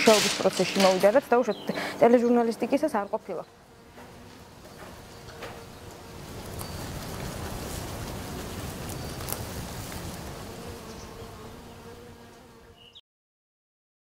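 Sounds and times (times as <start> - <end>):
flying insects buzzing: 0.0 - 13.0.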